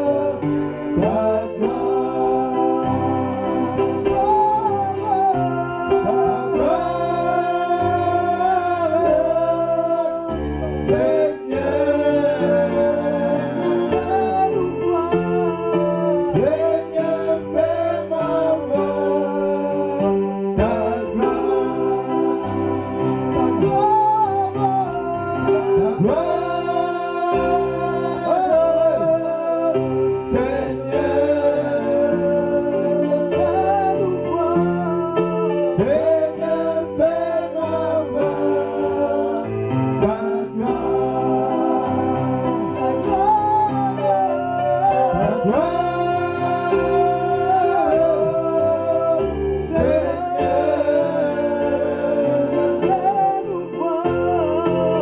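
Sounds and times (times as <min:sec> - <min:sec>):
electronic keyboard with beat: 0:00.0 - 0:55.0
voices singing gospel song: 0:00.0 - 0:55.0.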